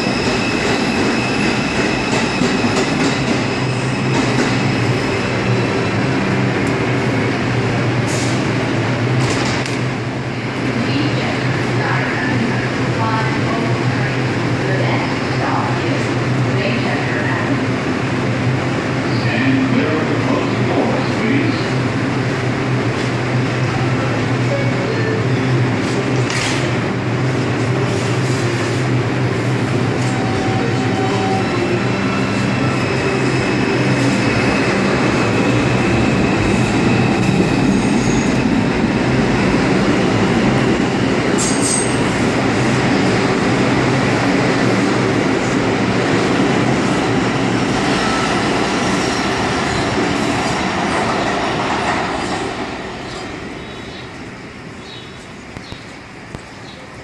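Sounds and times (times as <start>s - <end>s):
subway train running past: 0.0s - 57.0s.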